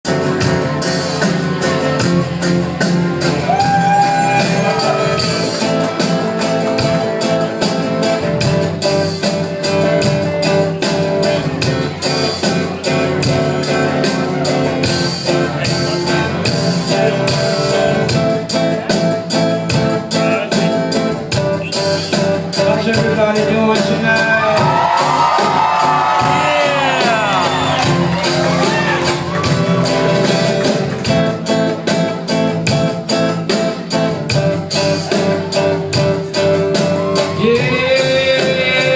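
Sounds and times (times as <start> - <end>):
live band playing: 0.0 - 38.9
steady drum beat: 0.0 - 38.9.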